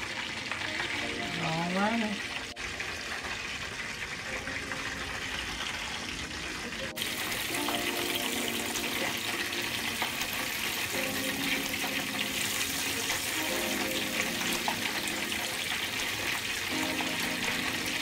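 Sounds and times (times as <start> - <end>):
batter sizzling in hot oil: 0.0 - 18.0.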